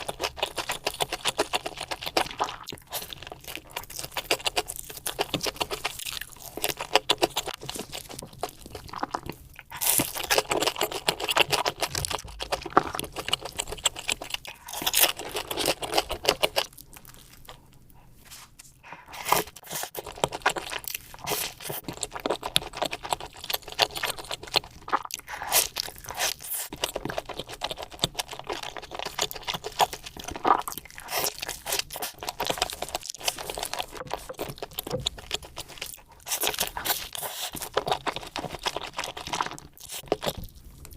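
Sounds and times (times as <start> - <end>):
chewing and crunching food: 0.0 - 40.9.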